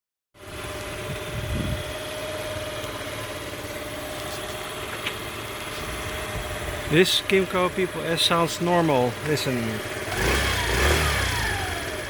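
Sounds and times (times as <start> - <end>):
scooter engine idling: 0.4 - 12.0.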